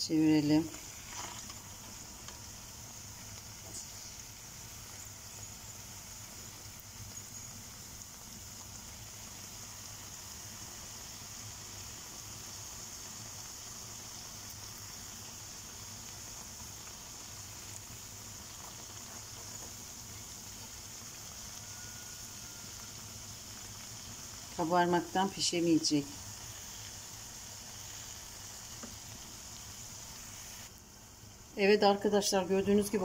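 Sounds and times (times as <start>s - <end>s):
dough sizzling in hot oil: 0.0s - 33.0s.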